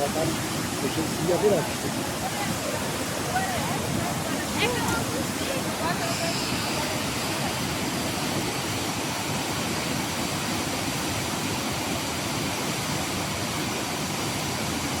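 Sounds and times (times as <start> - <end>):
rushing rain water: 0.0 - 15.0.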